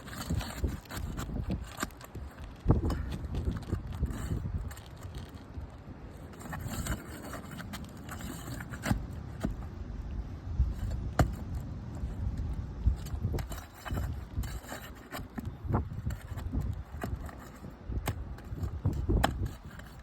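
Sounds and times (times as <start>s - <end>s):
sharp clicks and scrapes: 0.0s - 20.0s.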